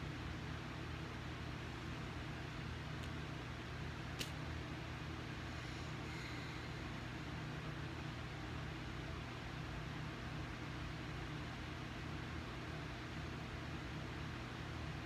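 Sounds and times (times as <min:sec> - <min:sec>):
low mechanical hum with hiss: 0:00.0 - 0:15.0.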